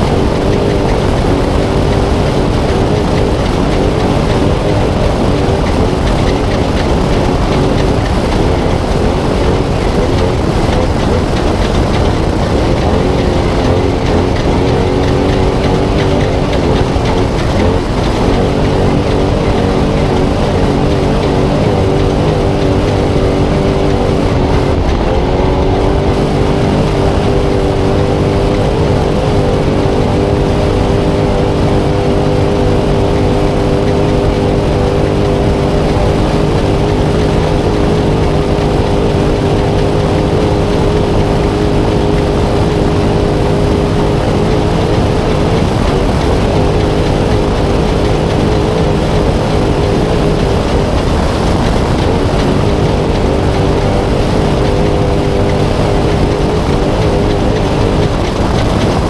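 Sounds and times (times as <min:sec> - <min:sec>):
rushing noise: 0:00.0 - 0:59.0
truck engine at high revs: 0:00.0 - 0:59.0.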